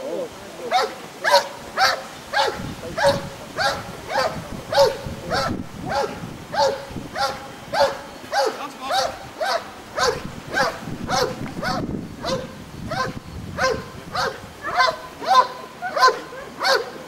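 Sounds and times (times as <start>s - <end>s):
dog barking: 0.7s - 17.0s.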